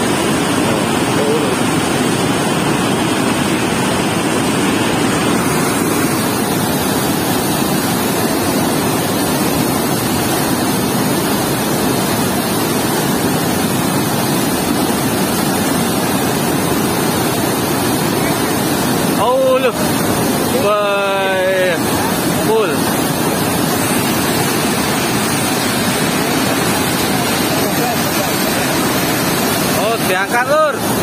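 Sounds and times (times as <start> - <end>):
water gushing through sluice gate: 0.0 - 31.0.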